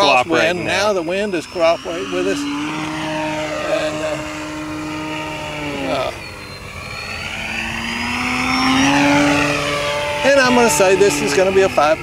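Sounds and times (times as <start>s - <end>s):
model plane motor hum: 0.0s - 12.0s
thin high whine: 0.0s - 12.0s.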